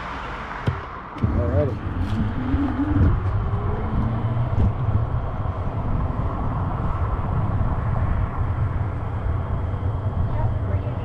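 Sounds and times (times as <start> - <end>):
wind buffeting microphone: 1.2 - 11.0.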